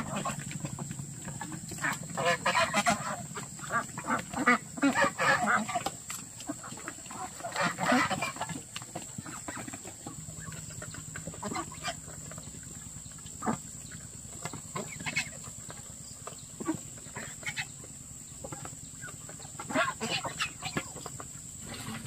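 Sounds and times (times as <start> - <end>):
geese or ducks calling: 0.0 - 22.0.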